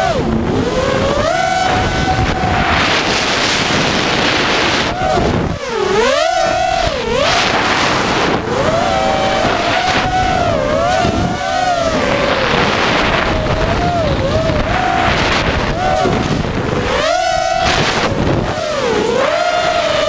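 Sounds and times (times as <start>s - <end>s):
quadcopter motors whining: 0.0s - 20.0s
wind on microphone: 0.0s - 20.0s.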